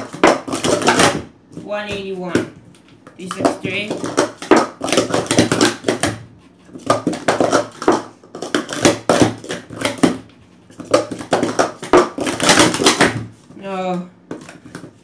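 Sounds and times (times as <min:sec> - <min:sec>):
plastic cups clattering: 0:00.0 - 0:02.0, 0:03.0 - 0:13.3.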